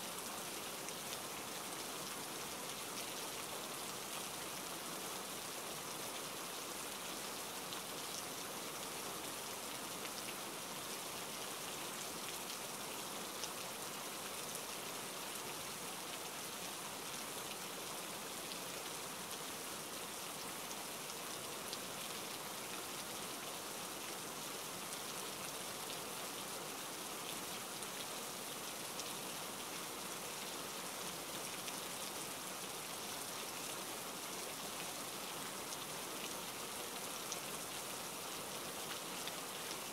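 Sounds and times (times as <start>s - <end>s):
quiet rain falling: 0.0s - 39.9s.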